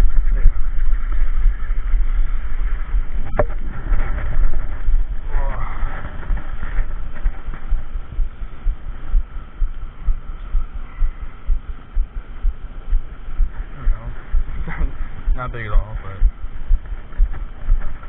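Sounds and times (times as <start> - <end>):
dull low thumps: 0.0 - 18.0
low rumble: 0.0 - 18.0.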